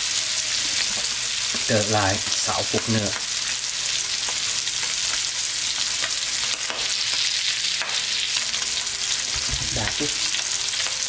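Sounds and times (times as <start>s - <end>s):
steak sizzling in a frying pan: 0.0s - 11.0s.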